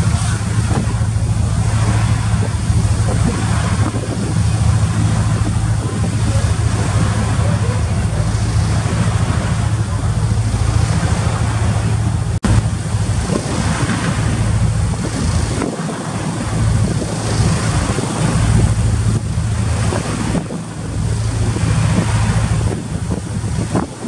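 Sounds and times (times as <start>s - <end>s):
sea rushing: 0.0s - 24.0s
ship engine humming: 0.0s - 24.0s
wind buffeting microphone: 0.0s - 24.0s.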